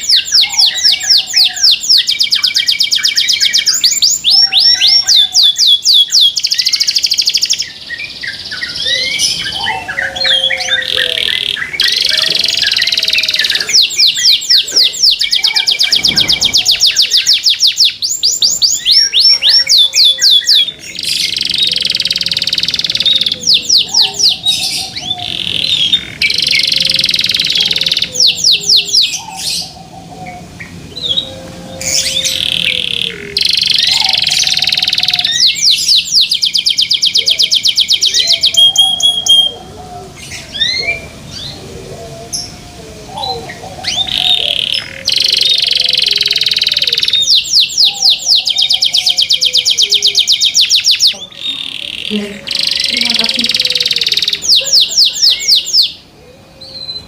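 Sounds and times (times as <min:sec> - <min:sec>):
canary trilling: 0:00.0 - 0:57.0.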